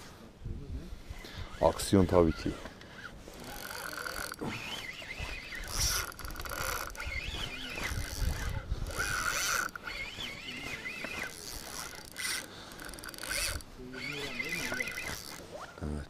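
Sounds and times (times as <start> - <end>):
fishing reel gears whirring: 1.0 - 16.0.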